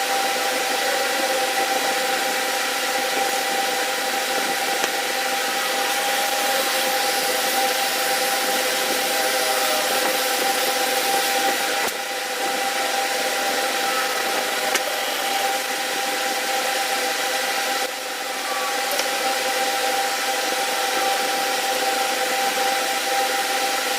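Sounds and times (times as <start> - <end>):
machine motor whine: 0.0 - 23.9.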